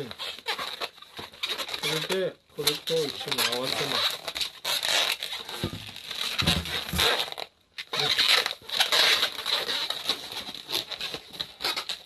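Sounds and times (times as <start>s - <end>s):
balloons rubbing and squeaking: 0.0s - 12.0s.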